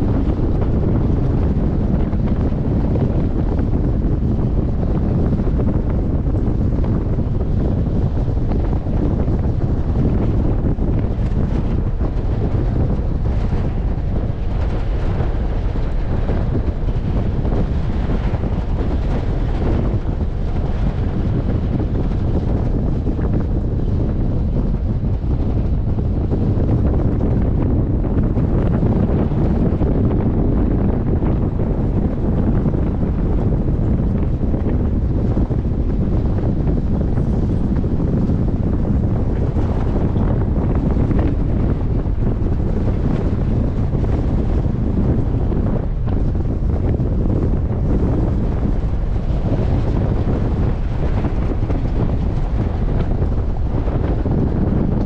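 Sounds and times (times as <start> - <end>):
vehicle rumbling on dirt road: 0.0 - 55.0
wind buffeting microphone: 0.0 - 55.0.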